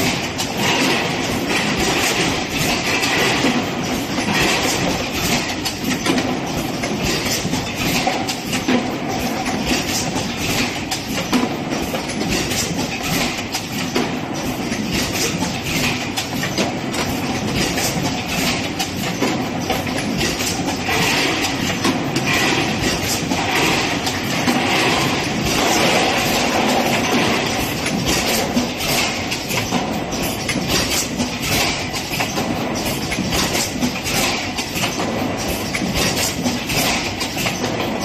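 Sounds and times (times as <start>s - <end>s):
machine clattering: 0.0s - 38.0s.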